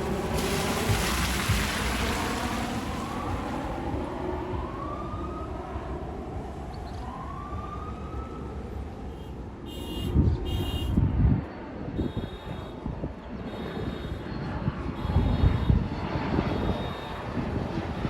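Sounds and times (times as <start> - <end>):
distant siren: 0.0 - 11.1, 11.8 - 18.0
jet airliner roar: 0.0 - 18.0.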